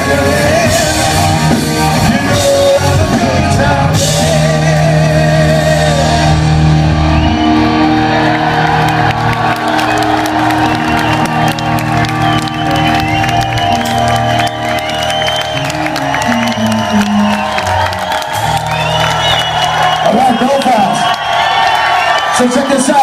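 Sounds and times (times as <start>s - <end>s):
rock band sustained chord: 0.0s - 20.0s
crowd cheering and whistling: 0.0s - 23.0s.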